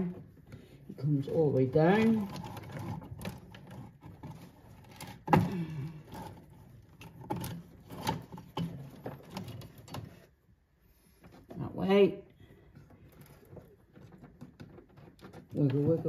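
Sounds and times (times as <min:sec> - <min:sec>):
wires rustling and clicking: 0:00.0 - 0:16.0.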